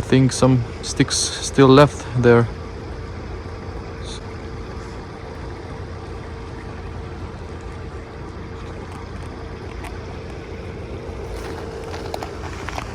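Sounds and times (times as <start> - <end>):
low hum: 0.0 - 12.9
water rushing into culvert: 0.0 - 12.9.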